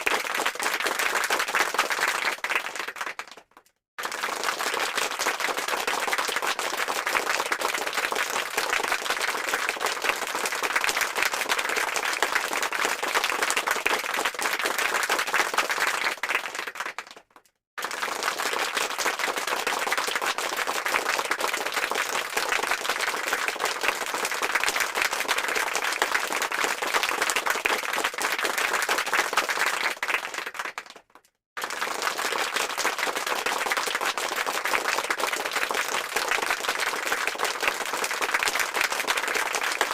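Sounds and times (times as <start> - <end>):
crowd clapping: 0.0 - 39.9.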